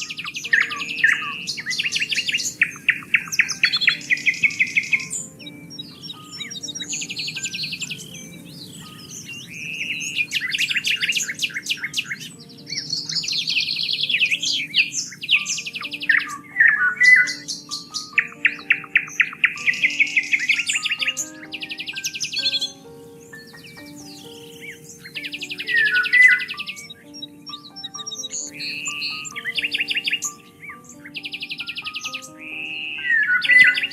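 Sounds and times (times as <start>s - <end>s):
soft slow instrumental music: 0.0s - 33.9s
songbirds trilling and chirping: 0.0s - 33.9s.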